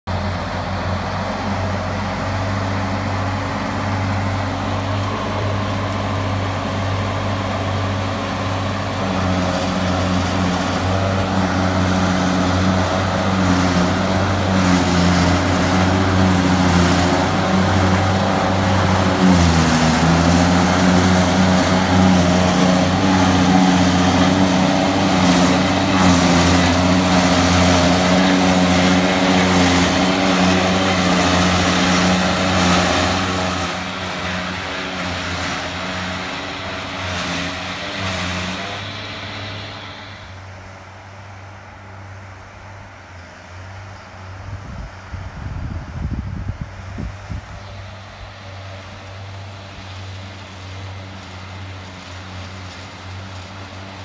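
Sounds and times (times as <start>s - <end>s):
tractor diesel engine under load: 0.0s - 54.0s
forage harvester whirring: 0.1s - 54.0s.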